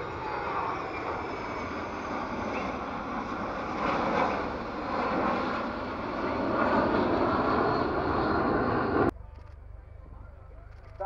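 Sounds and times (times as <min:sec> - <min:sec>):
jet aircraft flying over: 0:00.0 - 0:10.6.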